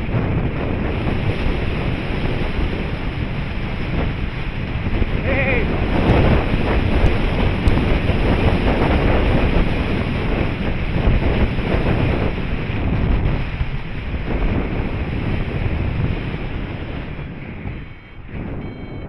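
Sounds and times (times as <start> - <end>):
wind buffeting the microphone: 0.0 - 19.0.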